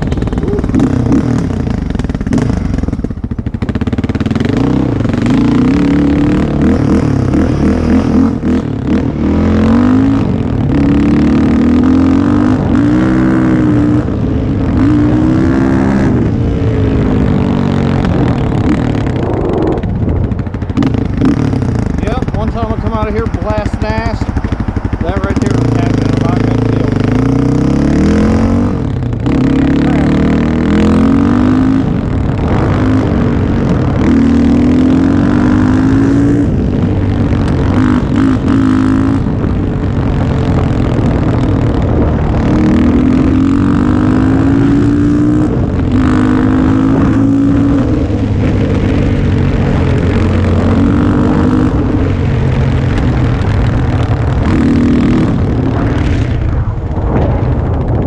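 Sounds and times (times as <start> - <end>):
atv engine accelerating: 0.0 - 58.0.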